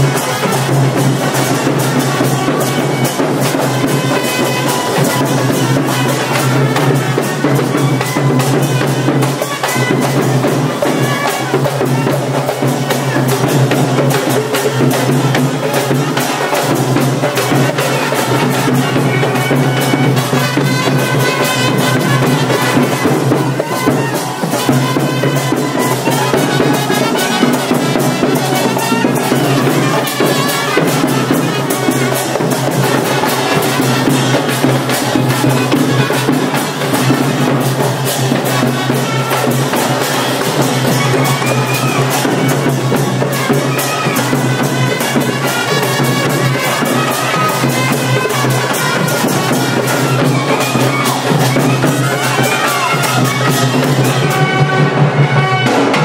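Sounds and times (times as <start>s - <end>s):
music with drums and brass: 0.0s - 56.0s.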